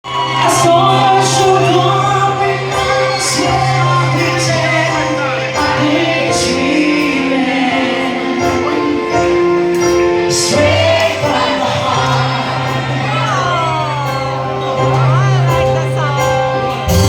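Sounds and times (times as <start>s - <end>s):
choir singing with accompaniment: 0.1s - 16.2s.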